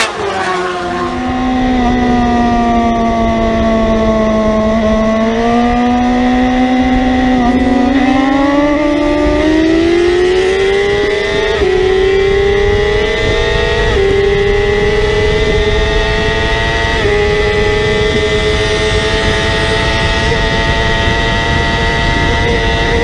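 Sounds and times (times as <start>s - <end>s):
motorcycle engine at full throttle: 0.0s - 23.0s.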